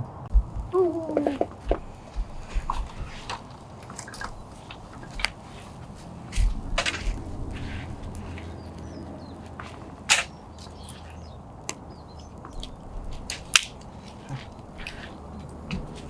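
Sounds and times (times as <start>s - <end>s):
campfire crackling: 0.0s - 16.0s
sharp pops of fire: 1.4s - 14.9s.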